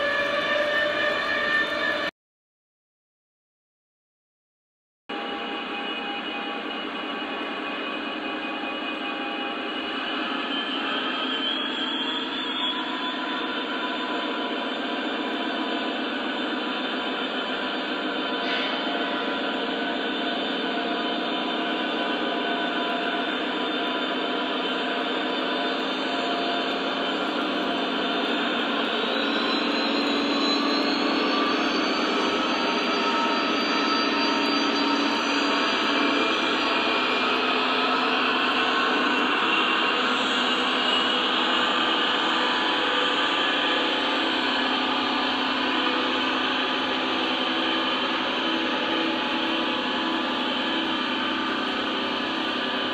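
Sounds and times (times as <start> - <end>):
model train whirring on track: 0.0 - 2.1, 5.2 - 52.9.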